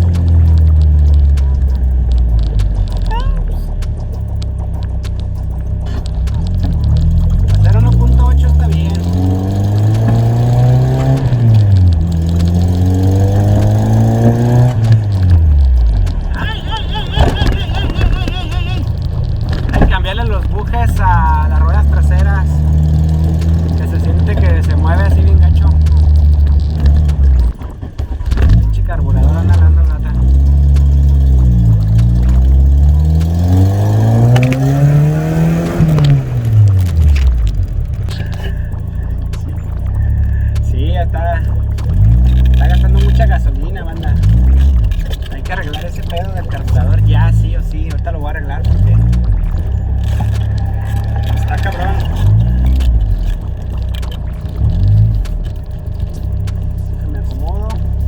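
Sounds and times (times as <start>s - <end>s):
person speaking: 0.0s - 27.6s, 28.3s - 58.0s
car engine accelerating: 0.0s - 58.0s.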